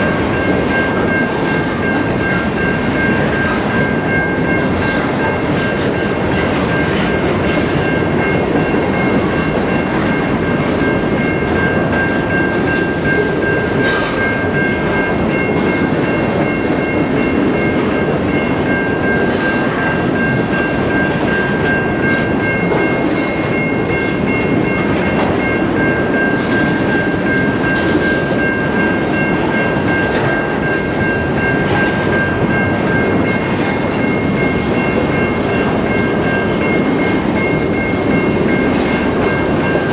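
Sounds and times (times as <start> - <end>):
clacks at rail joints: 0.0 - 39.9
train wheels rumbling on rails: 0.0 - 39.9.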